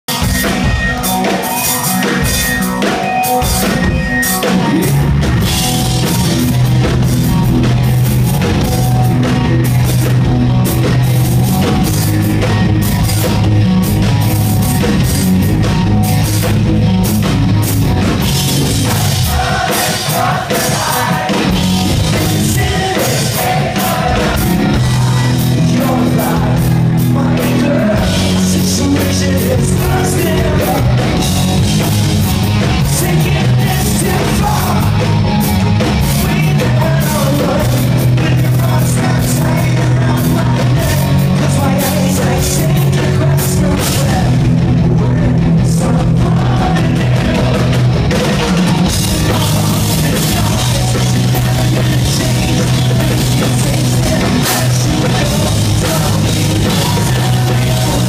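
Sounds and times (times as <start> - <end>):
loud electric guitars: 0.0 - 58.0
driving drum beat: 0.1 - 58.0.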